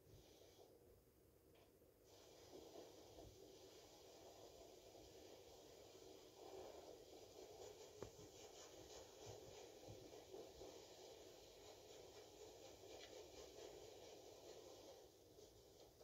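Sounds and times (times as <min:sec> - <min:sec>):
soft ticks and scratches: 0:01.5 - 0:16.0.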